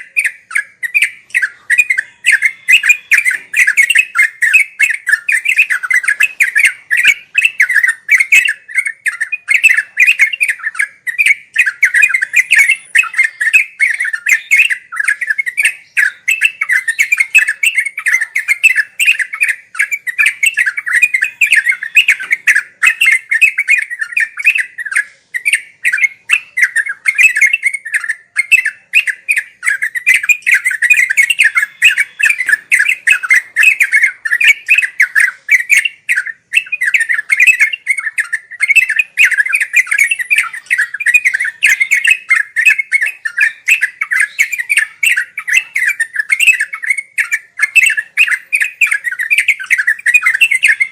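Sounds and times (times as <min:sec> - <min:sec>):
bird singing chattering phrases: 0:00.0 - 0:50.9.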